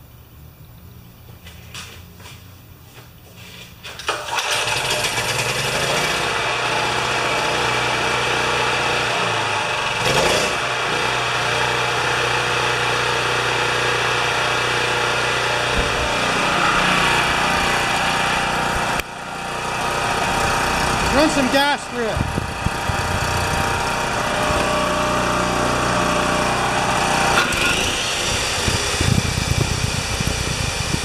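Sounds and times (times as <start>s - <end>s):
generator engine running: 3.9s - 31.0s.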